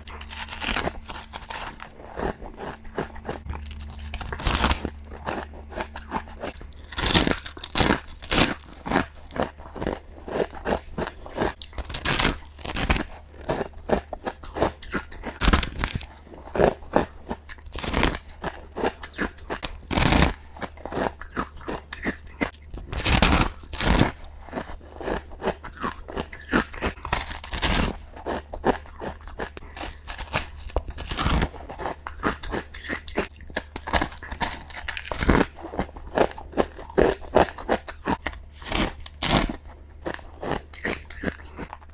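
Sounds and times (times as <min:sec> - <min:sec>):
faint low hum: 0:00.0 - 0:41.9
ice being chewed: 0:00.0 - 0:41.9.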